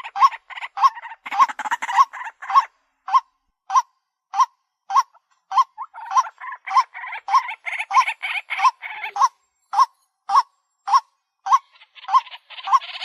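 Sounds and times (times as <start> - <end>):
rough bird chattering: 0.0 - 13.0.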